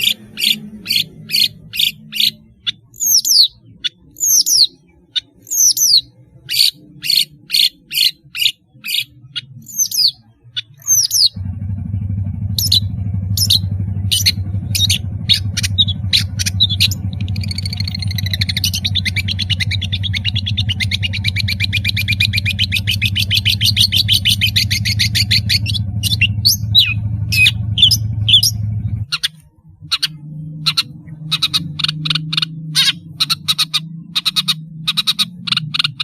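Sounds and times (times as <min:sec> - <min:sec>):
bird chirps: 0:00.0 - 0:11.5, 0:12.5 - 0:36.0
bird trill: 0:00.0 - 0:11.5, 0:12.3 - 0:36.0
low hum: 0:00.0 - 0:36.0.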